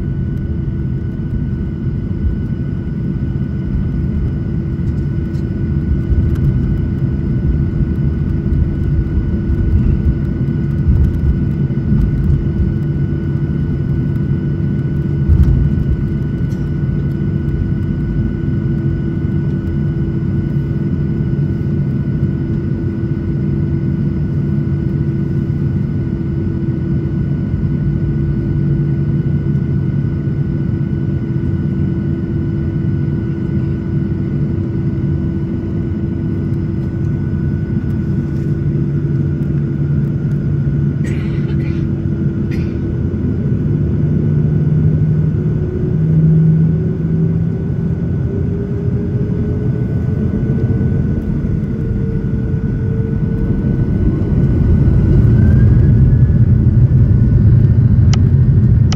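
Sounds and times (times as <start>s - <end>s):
jet engines humming at low power: 0.0s - 58.9s.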